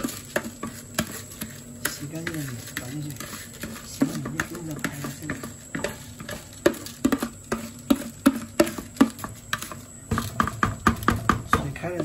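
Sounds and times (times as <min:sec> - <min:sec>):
metal spoon scraping bowl: 0:00.0 - 0:12.0.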